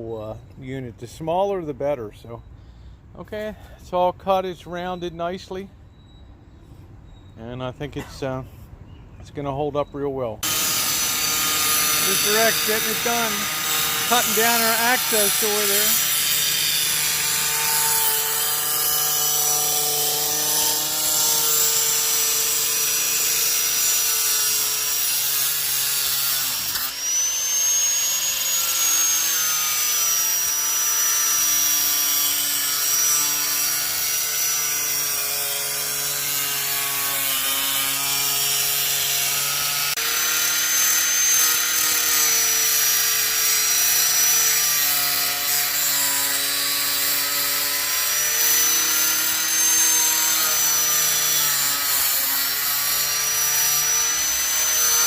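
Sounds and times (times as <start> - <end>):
electric power saw whining: 10.4 - 55.0.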